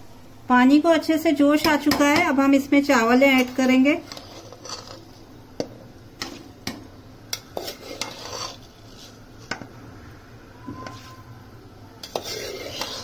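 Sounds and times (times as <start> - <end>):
water boiling: 0.1 - 13.0.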